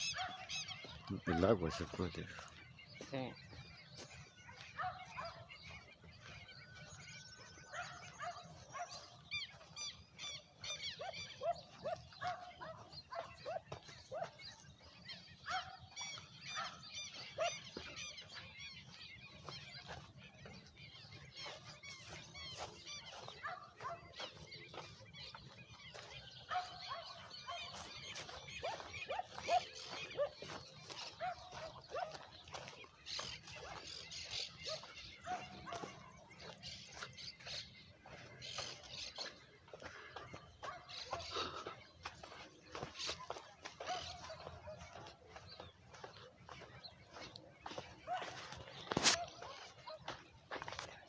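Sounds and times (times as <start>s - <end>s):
birds chirping and squawking: 0.0s - 51.0s.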